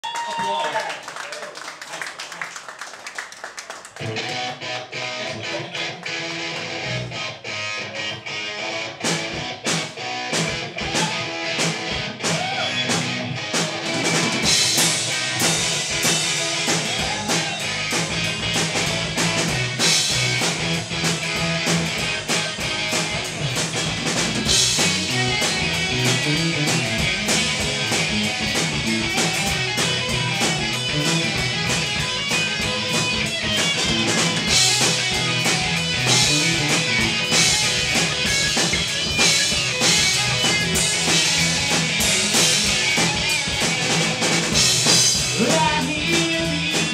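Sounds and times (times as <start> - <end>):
steady electric guitars: 3.9 - 46.9.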